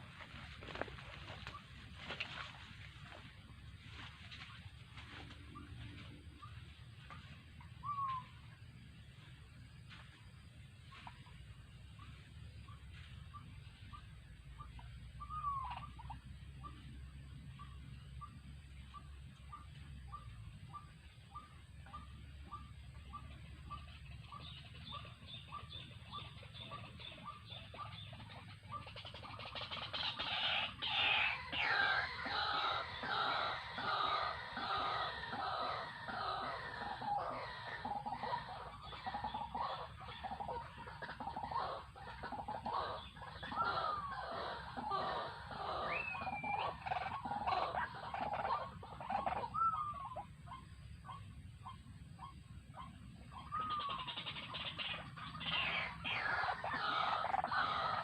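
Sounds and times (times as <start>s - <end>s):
waterhen calling: 0.0s - 8.8s, 10.9s - 58.0s
birds croaking and grunting: 0.0s - 58.0s.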